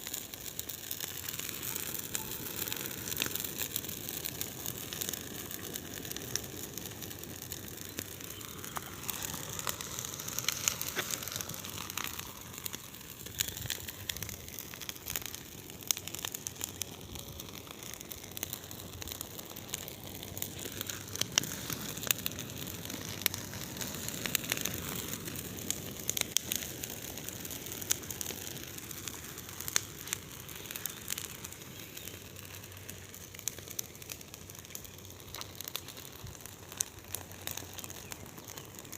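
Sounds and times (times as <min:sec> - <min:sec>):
bonfire flames rushing: 0:00.0 - 0:38.9
burning wood crackling and popping: 0:00.0 - 0:38.9.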